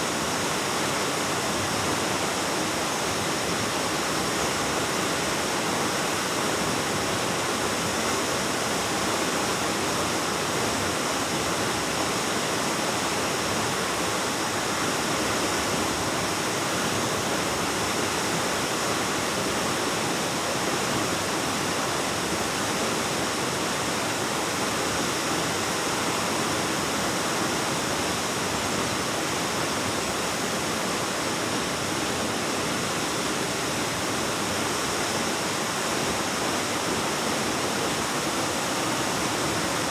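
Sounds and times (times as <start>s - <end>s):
waterfall rushing into pool: 0.0s - 39.9s.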